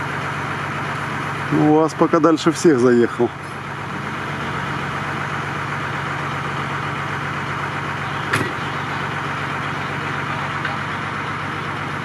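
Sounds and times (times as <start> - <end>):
vehicle engine running at low revs: 0.0 - 12.0.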